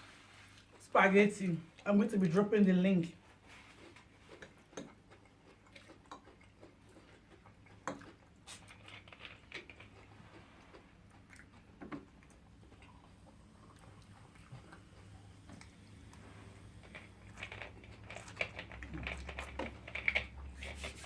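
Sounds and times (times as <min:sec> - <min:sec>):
chewing and eating sounds: 0:00.0 - 0:00.9, 0:03.2 - 0:21.0.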